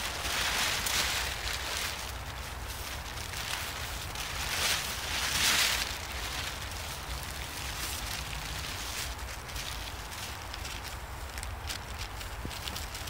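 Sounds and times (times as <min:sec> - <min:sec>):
plastic tarp rustling and crinkling: 0:00.0 - 0:13.0.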